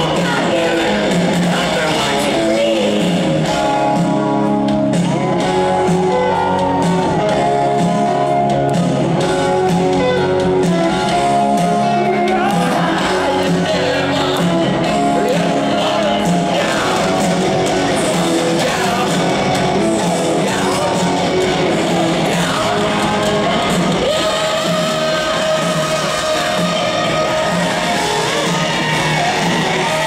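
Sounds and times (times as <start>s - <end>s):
live hard rock band: 0.0s - 30.0s
shouted lead vocal: 0.0s - 30.0s.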